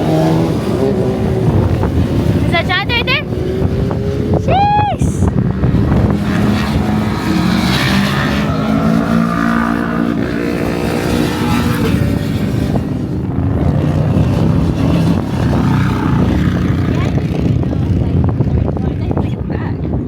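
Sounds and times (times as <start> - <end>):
motorcycles passing on a race track: 0.0 - 20.0.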